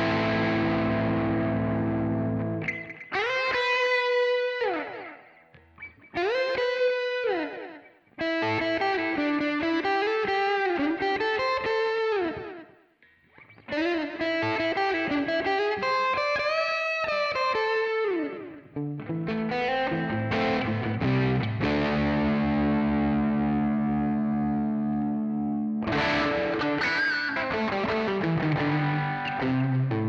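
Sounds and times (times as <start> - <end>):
electric guitar lead phrases: 0.0 - 30.0.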